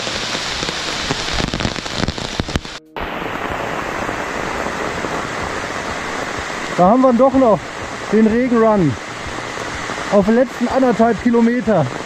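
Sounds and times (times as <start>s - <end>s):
rain drumming on umbrella: 0.0s - 12.0s.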